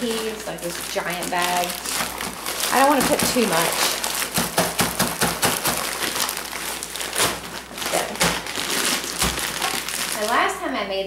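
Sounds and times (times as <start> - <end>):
frozen peas pouring out: 0.0 - 10.5
plastic bag crinkling: 0.0 - 10.6.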